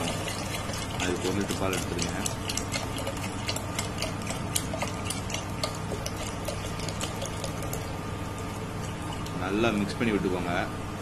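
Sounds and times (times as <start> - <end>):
milk pouring into pot: 0.0 - 9.9
steady low hum: 0.0 - 11.0.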